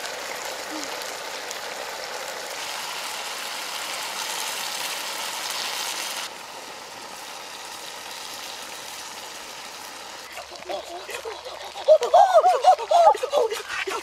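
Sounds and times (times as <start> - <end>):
meat sizzling in a wok: 0.0 - 14.0.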